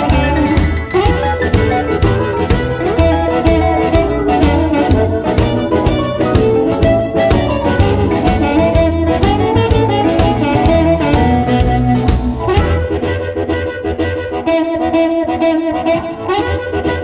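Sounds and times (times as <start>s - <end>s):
amplified harmonica: 0.0s - 17.0s
bass: 0.0s - 17.0s
drums: 0.0s - 17.0s
electric guitar: 0.0s - 17.0s.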